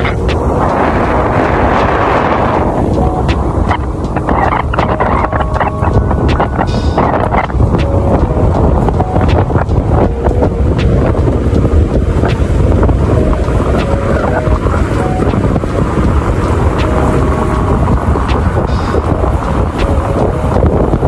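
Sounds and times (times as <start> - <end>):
car road noise: 0.0 - 21.0
wind buffeting microphone: 0.0 - 21.0.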